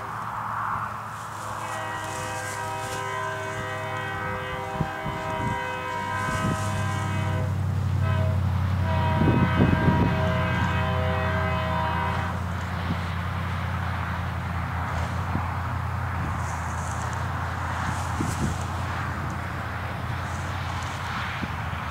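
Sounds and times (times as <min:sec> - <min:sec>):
diesel engine drone: 0:00.0 - 0:21.9
locomotive air horn blasts: 0:01.2 - 0:21.9.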